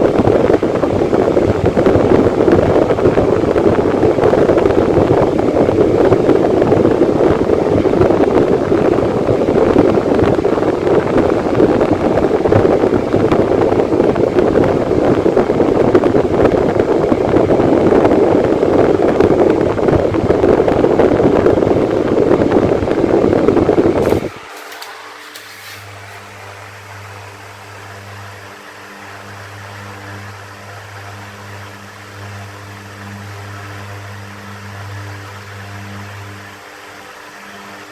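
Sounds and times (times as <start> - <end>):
electric fan running: 0.0 - 37.9.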